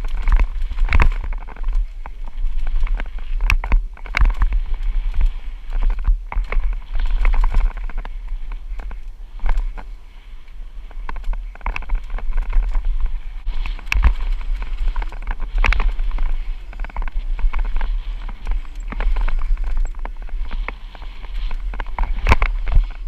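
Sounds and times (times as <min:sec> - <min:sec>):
bike rattling and knocking: 0:00.0 - 0:23.0
wind buffeting microphone: 0:00.0 - 0:23.0.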